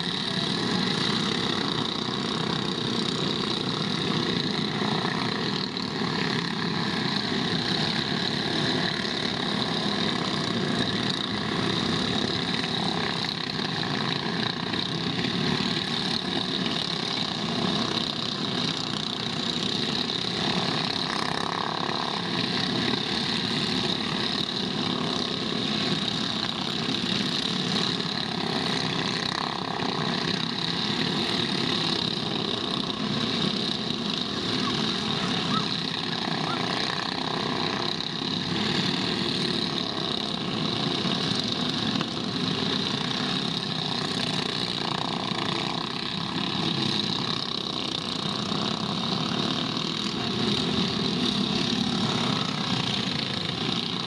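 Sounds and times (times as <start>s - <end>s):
go-kart engines droning: 0.0s - 54.0s.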